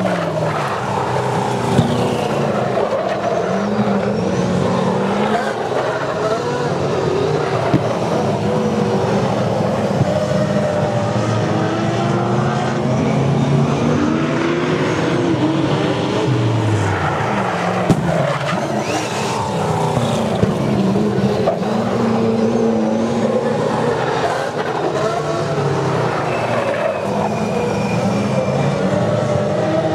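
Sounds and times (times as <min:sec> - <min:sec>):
race car engines running hard: 0:00.0 - 0:29.9.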